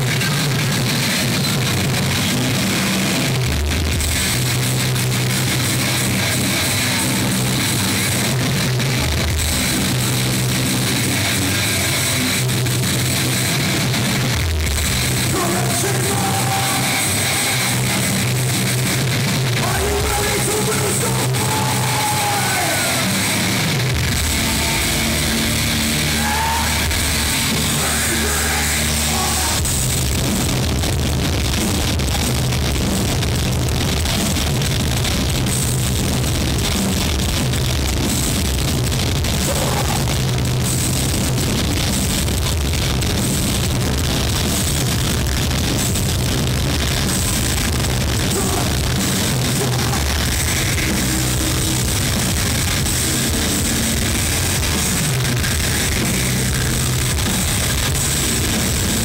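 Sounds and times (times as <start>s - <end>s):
bass: 0.0s - 59.0s
distorted guitars: 0.0s - 59.0s
drums: 0.0s - 59.0s.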